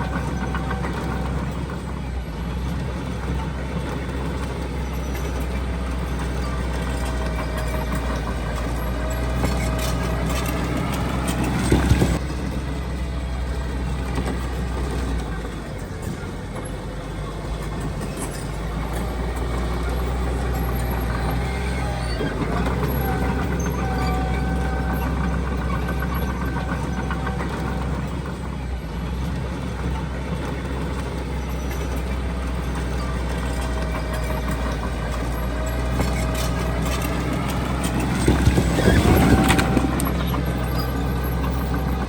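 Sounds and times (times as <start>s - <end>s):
diesel earthmoving machinery running: 0.0s - 42.0s
metallic clanks: 0.1s - 12.7s, 17.5s - 42.0s.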